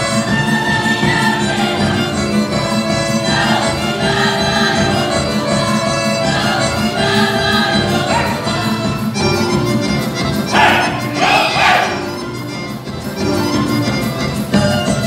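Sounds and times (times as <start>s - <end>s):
folk orchestra playing dance music: 0.0s - 15.0s.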